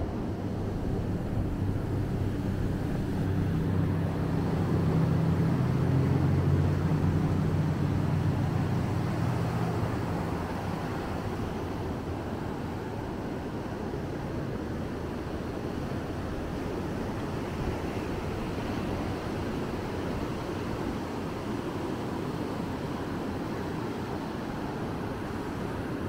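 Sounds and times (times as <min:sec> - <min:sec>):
ocean surf: 0:00.0 - 0:26.0
passing engine hum: 0:00.0 - 0:26.0.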